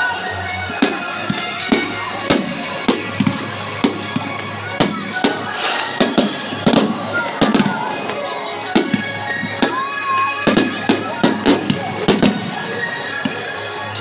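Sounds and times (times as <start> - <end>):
music: 0.0 - 14.0
fireworks bangs: 0.6 - 13.7.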